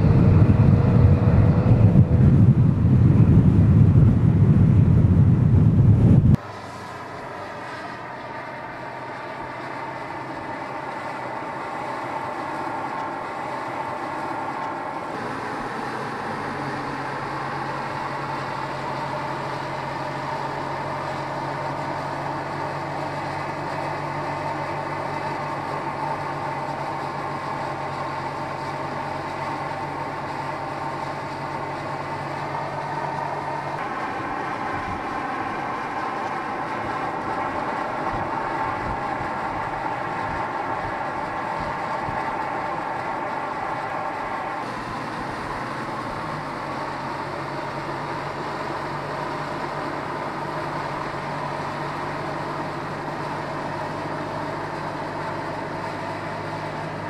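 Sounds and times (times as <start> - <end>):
car engine cruising: 0.0 - 57.0
tyre and road noise: 0.0 - 57.0.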